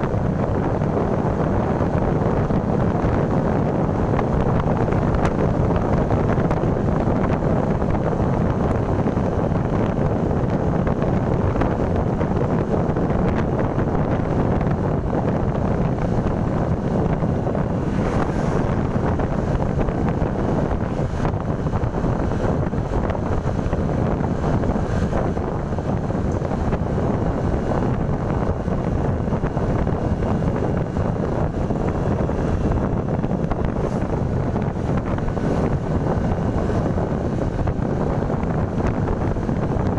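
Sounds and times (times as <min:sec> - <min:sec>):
wind buffeting microphone: 0:00.0 - 0:39.9
motorcycle engine: 0:00.4 - 0:39.9.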